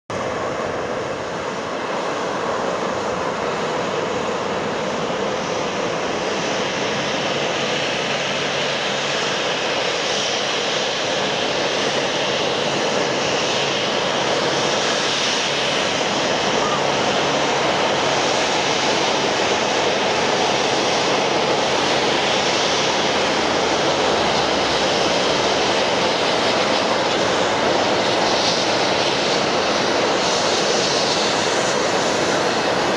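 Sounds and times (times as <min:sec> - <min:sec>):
jet engine whine: 0:00.1 - 0:32.9.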